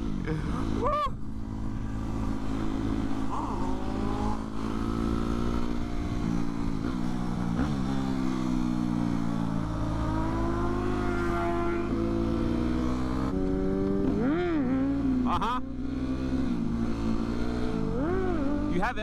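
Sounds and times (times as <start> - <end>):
motorcycle engine revving: 0.0 - 19.0
wind and road noise: 0.0 - 19.0.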